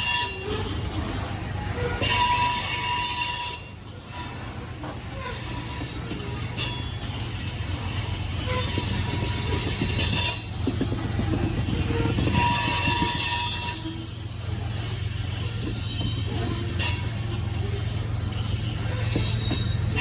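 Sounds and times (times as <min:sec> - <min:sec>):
wheel flange squeal: 0:00.0 - 0:20.0.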